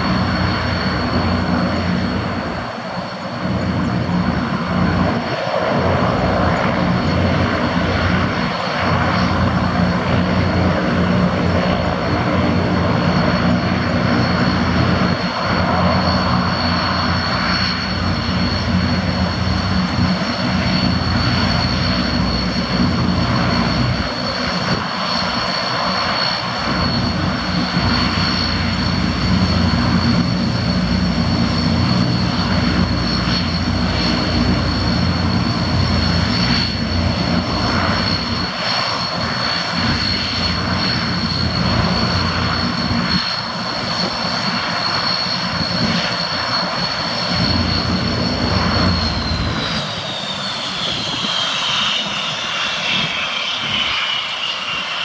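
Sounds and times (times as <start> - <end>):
propellers droning: 0.0 - 55.0
turbine engine whine: 0.0 - 55.0.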